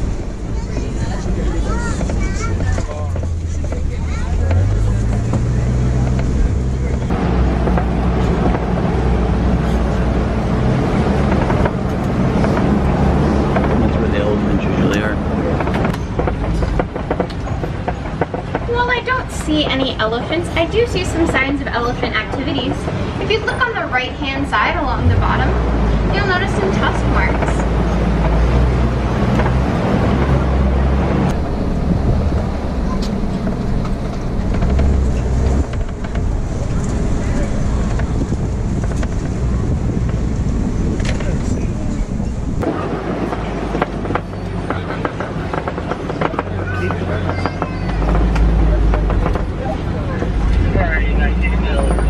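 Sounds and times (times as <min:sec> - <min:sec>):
road noise: 0:00.0 - 0:52.0
truck engine running: 0:00.0 - 0:52.0
wind noise: 0:00.0 - 0:52.0.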